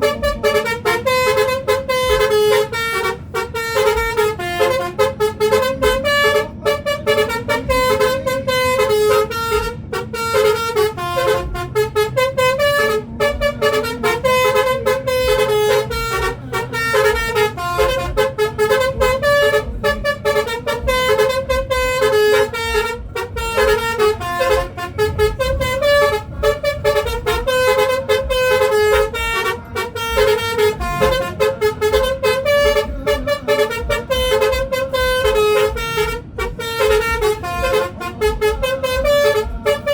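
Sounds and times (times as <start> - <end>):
musical vehicle horn playing tune: 0.0 - 39.9.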